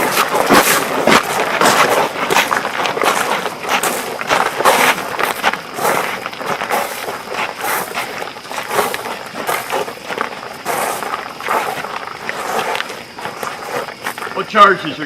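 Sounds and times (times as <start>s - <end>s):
feet shuffling and scuffing: 0.0s - 14.6s.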